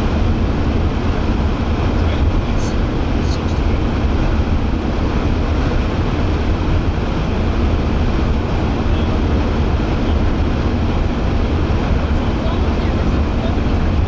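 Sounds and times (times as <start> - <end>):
tyre and engine rumble: 0.0 - 14.0.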